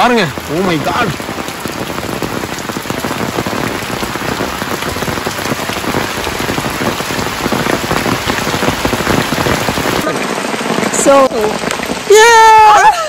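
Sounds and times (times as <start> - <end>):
rain on umbrella: 0.0 - 13.0.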